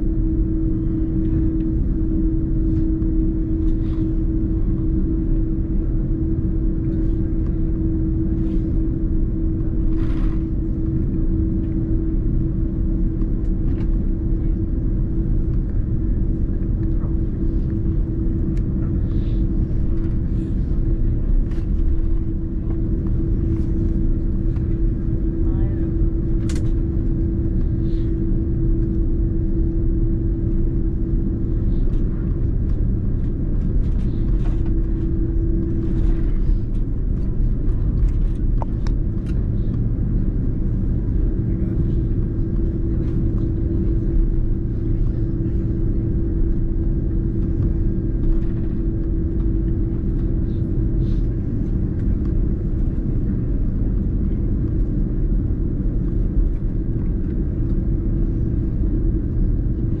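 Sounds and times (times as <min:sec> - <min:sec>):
aircraft cabin rumble: 0:00.0 - 1:00.0
jet engine hum: 0:00.0 - 1:00.0.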